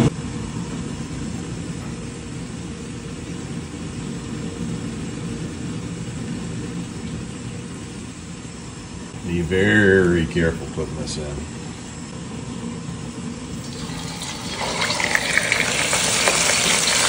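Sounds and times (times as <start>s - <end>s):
gas burner rushing hum: 0.0s - 17.0s.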